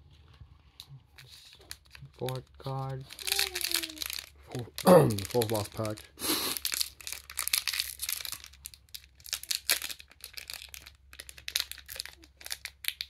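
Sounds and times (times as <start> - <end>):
wrapper tearing and crinkling: 1.3 - 13.0.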